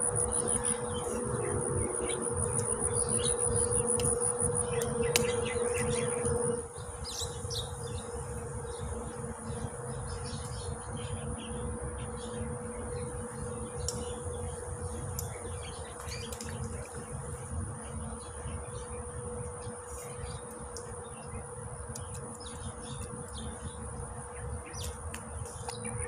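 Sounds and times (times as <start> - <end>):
insect drone with high whine: 0.0 - 26.0.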